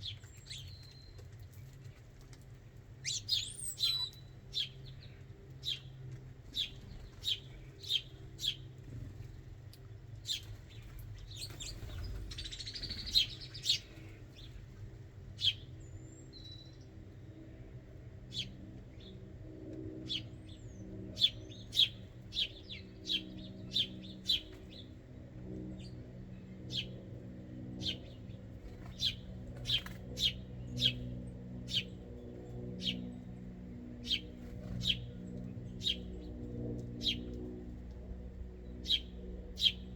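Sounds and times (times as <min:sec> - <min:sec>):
low background hum: 0:00.0 - 0:39.9
songbirds chirping: 0:00.0 - 0:39.9.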